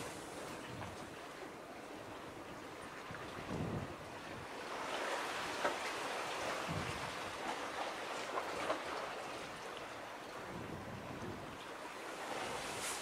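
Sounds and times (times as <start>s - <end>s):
small waves washing: 0.0s - 13.0s.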